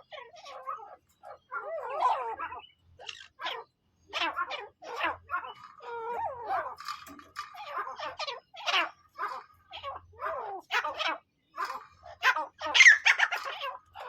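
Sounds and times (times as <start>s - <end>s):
partridges chattering calls: 0.0s - 14.0s.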